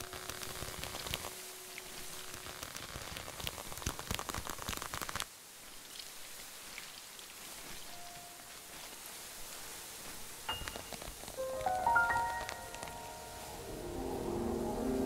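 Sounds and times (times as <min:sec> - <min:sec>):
crackling clicks and snaps: 0:00.0 - 0:09.0, 0:10.2 - 0:13.5
soft hiss: 0:00.0 - 0:15.0.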